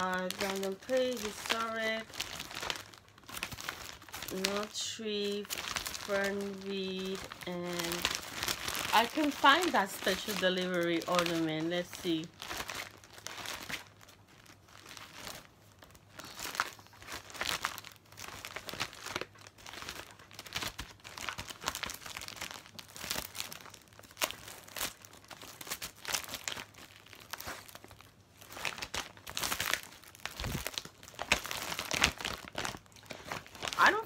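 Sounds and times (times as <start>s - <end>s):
plastic bags crinkling: 0.0s - 34.0s.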